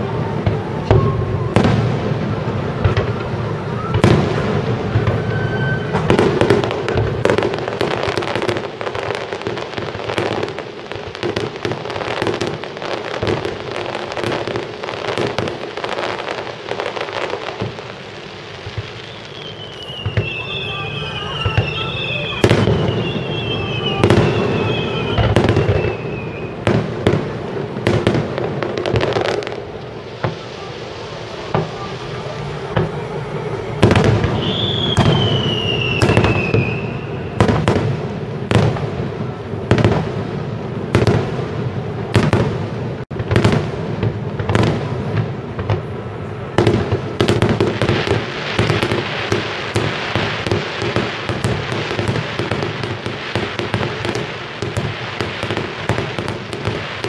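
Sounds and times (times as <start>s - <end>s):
falling firework whistle: 0.0s - 40.1s, 46.5s - 57.0s
fireworks bangs: 0.0s - 57.0s
fireworks crackling: 0.0s - 57.0s.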